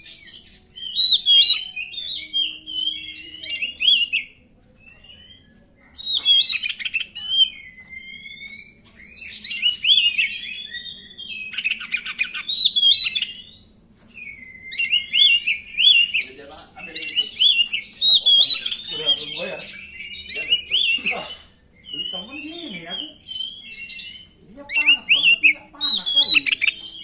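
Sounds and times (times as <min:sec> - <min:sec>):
bird singing whistled phrases: 0:00.0 - 0:27.0.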